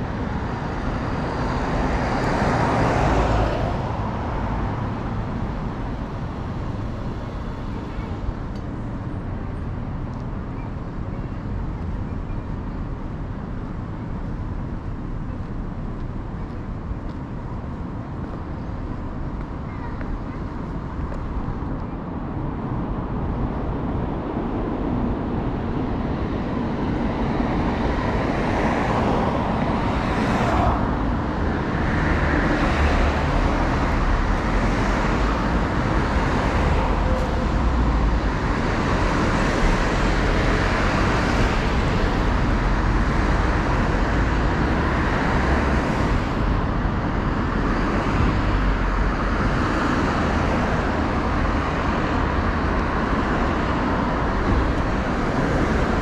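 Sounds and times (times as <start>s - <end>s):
cars passing: 0.0s - 10.5s, 13.1s - 56.0s.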